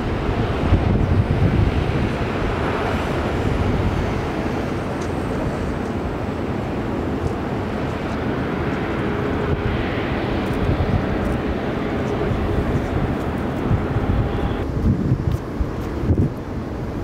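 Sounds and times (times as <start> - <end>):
jet engines rushing rumble: 0.0 - 17.0.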